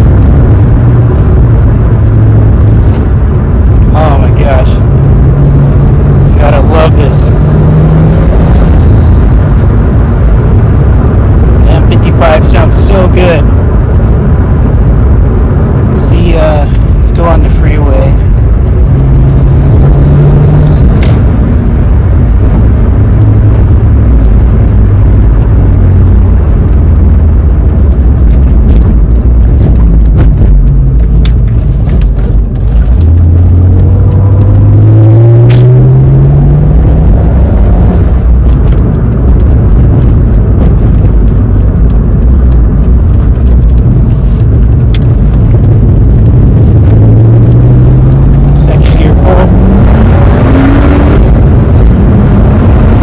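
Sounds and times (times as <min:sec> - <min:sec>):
car engine accelerating from inside: 0:00.0 - 0:53.0.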